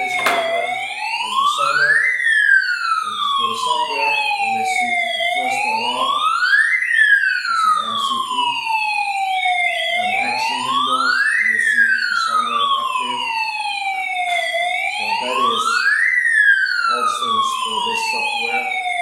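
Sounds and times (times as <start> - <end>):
electronic siren wailing: 0.0 - 19.0.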